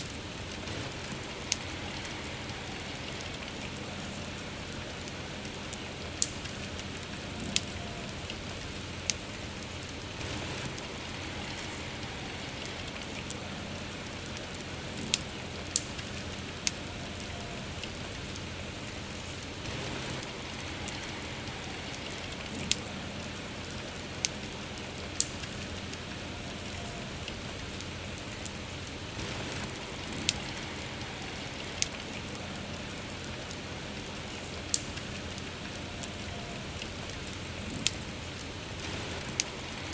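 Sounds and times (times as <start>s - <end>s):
campfire crackling and popping: 0.0s - 39.9s
steady rain: 0.0s - 39.9s.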